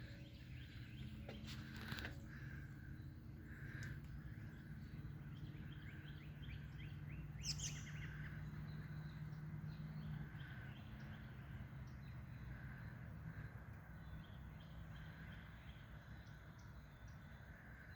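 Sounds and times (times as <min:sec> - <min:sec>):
small birds chirping: 0:00.0 - 0:17.9
steady low hum: 0:00.0 - 0:17.9.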